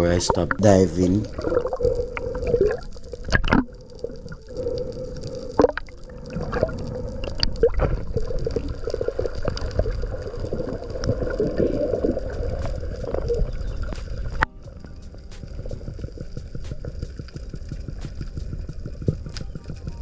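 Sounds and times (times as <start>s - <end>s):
water gurgling and sloshing: 0.0s - 20.0s.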